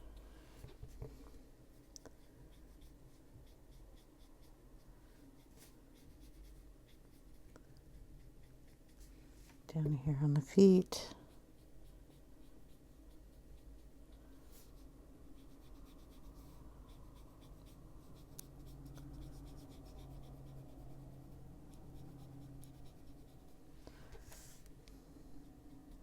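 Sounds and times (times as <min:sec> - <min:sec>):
faint low hum: 0:00.0 - 0:26.0
colouring scratching on paper: 0:01.7 - 0:09.1, 0:10.6 - 0:24.6.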